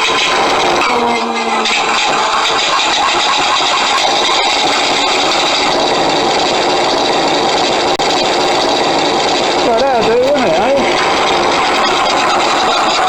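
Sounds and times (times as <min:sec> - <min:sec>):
multi-engine piston aero engine running: 0:00.0 - 0:13.0.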